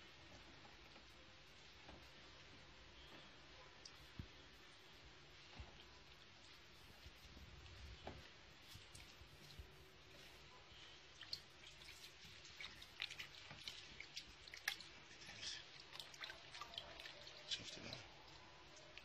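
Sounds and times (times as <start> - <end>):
wet clicks of kneading material: 3.0 - 19.0.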